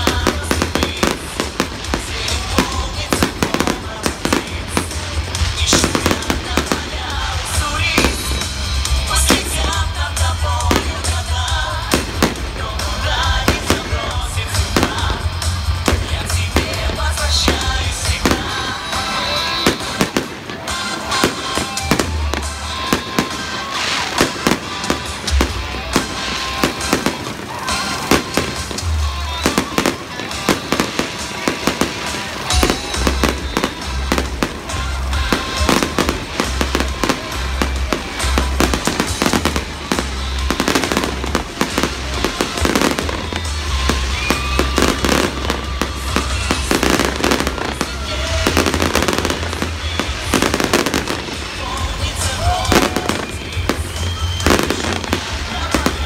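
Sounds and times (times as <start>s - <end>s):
music with bass beat: 0.0s - 23.3s, 24.1s - 56.0s
fireworks bursting: 0.0s - 56.0s.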